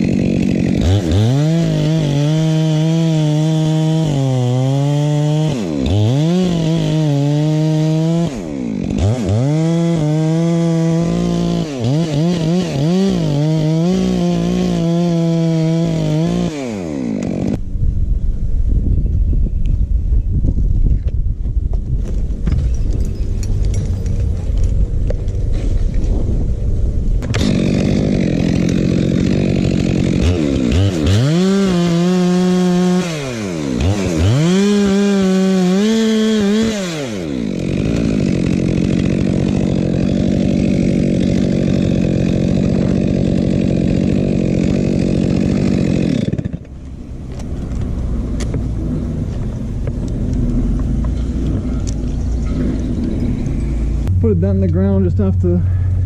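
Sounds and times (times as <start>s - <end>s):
chainsaw engine revving and idling: 0.0s - 17.6s, 27.2s - 55.7s.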